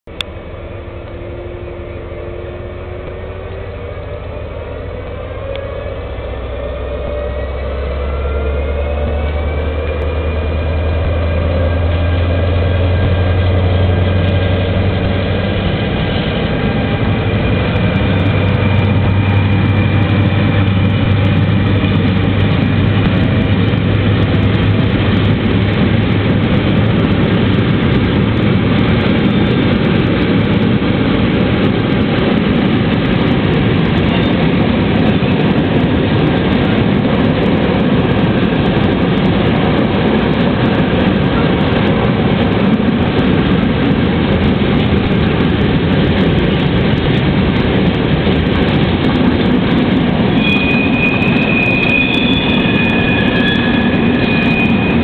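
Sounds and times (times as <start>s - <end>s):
freight train rolling past: 0.0s - 55.0s
diesel locomotive engine revving: 0.1s - 55.0s.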